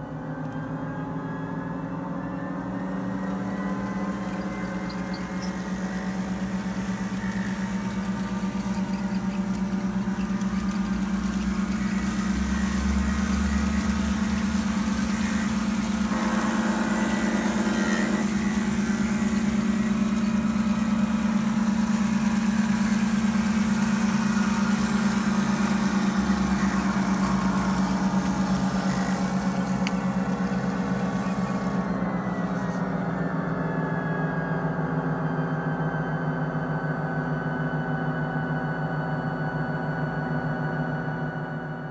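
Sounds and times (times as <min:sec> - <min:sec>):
synthetic diesel engine rumble: 0:00.0 - 0:41.9.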